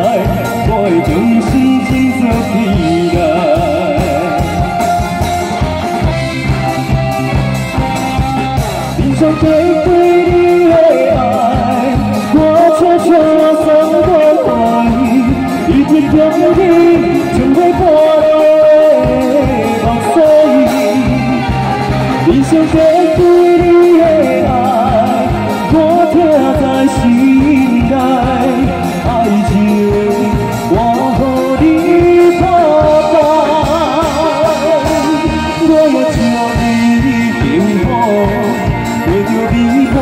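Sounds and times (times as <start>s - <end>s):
live band playing pop ballad: 0.0s - 40.0s
man singing: 0.0s - 40.0s.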